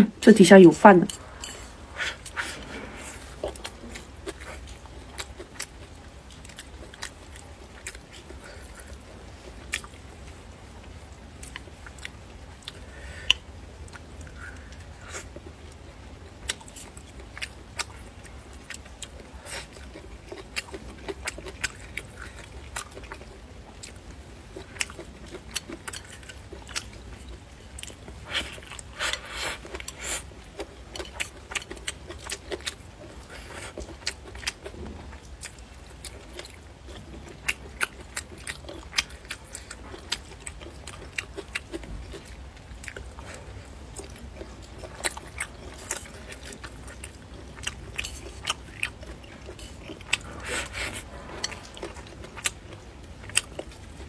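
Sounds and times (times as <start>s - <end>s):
person chewing crunchy food: 1.1s - 54.0s.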